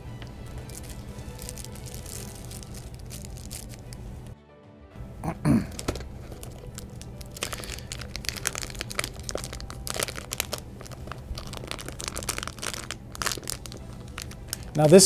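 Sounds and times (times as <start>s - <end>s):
plastic bag and paper crinkling: 0.1s - 4.0s, 5.7s - 15.0s.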